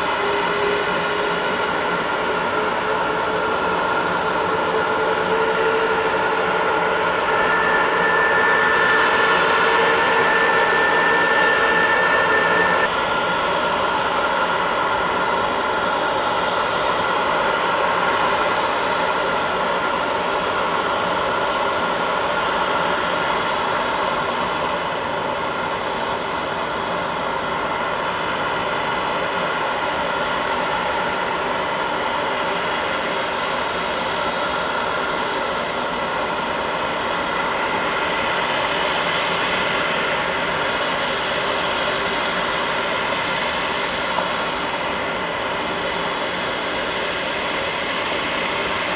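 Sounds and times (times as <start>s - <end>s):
jet engine whine: 0.0s - 48.9s.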